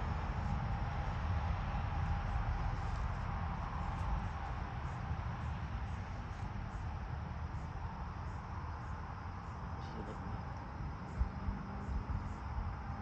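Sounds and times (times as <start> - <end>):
low rumble and hiss outdoors: 0.0 - 13.0.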